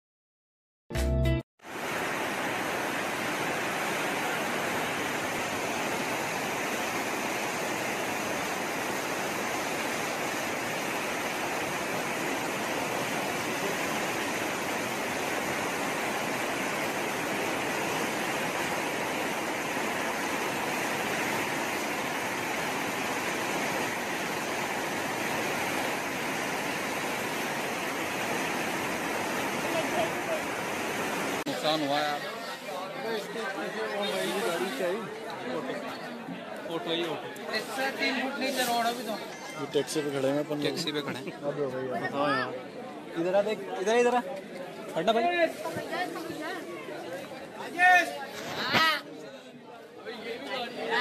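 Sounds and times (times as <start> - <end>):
floodwater rushing: 1.6 - 44.0, 44.7 - 49.2.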